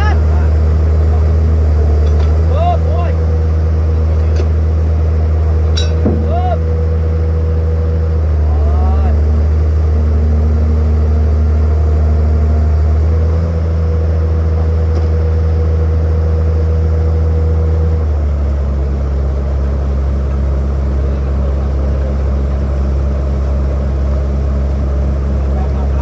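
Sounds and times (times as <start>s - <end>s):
heavy machinery engine running: 0.0s - 26.0s.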